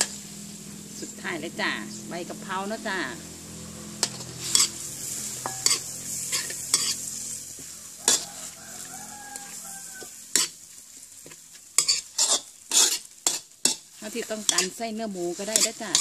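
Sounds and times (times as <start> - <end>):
frying sizzle: 0.0 - 16.0
metal ladle scraping wok: 0.0 - 16.0.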